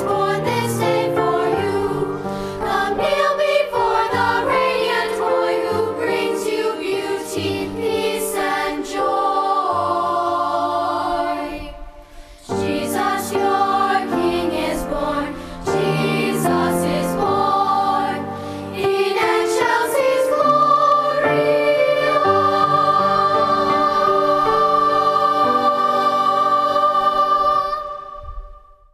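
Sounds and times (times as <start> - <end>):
choir singing a carol: 0.0 - 28.9.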